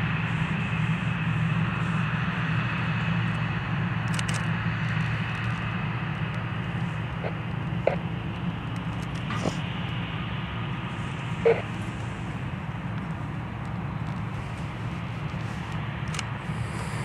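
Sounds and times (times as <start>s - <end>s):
constant low hum: 0.0s - 17.0s
jet engines running: 0.0s - 17.0s.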